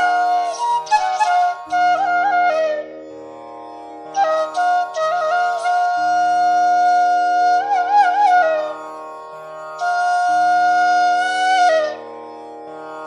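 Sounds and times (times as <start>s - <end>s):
slow flute melody: 0.0s - 3.3s, 4.1s - 9.0s, 9.7s - 12.1s.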